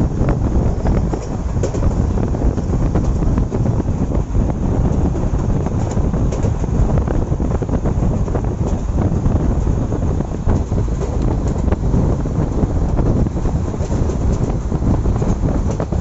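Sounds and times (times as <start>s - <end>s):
train coach rumbling on track: 0.0s - 16.0s
wind buffeting microphone: 0.0s - 16.0s.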